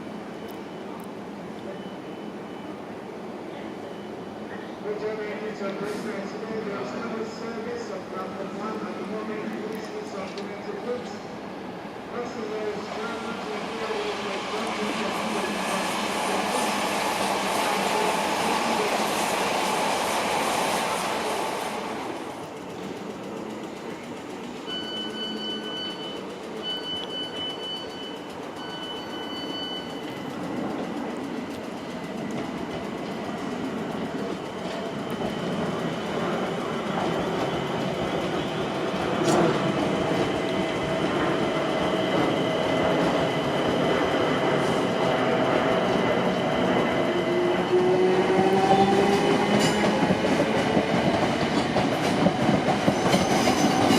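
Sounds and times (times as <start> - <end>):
train rumbling: 5.6 - 53.9.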